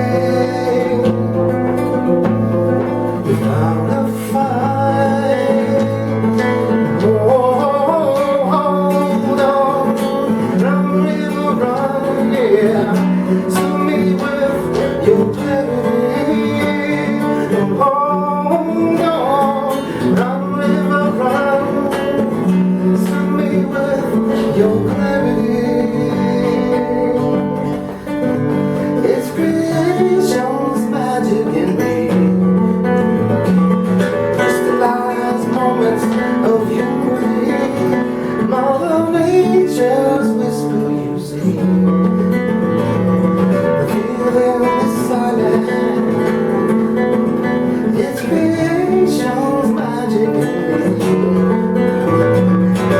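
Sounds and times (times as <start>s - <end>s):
acoustic guitar playing: 0.0s - 52.9s.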